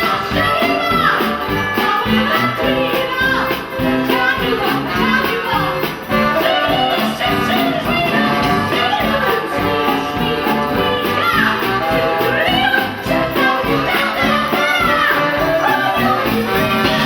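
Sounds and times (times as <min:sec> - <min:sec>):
stage-show music with singing: 0:00.0 - 0:17.0.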